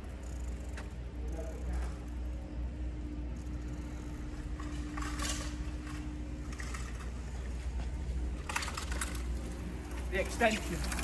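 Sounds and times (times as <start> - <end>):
bike tyres humming on concrete: 0.0 - 11.0.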